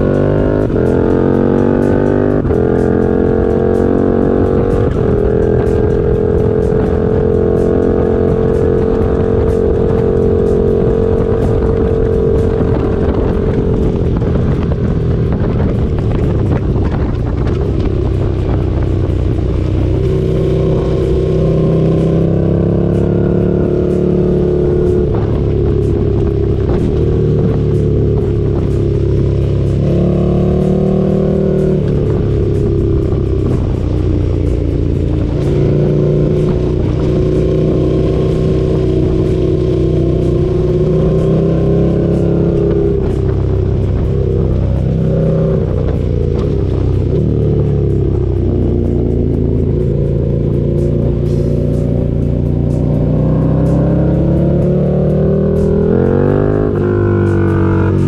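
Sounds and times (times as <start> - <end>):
motorcycle engine running hard: 0.0 - 58.0
wind rushing over microphone: 0.0 - 58.0.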